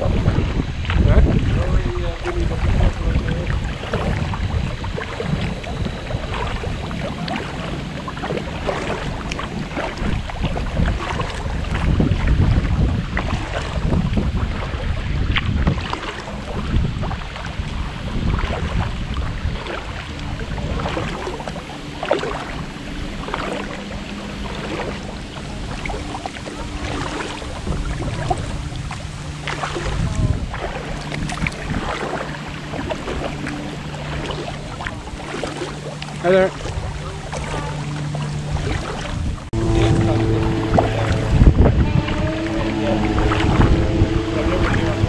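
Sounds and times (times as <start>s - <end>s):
paddle splashing in water: 0.0s - 45.0s
wind buffeting microphone: 0.0s - 45.0s.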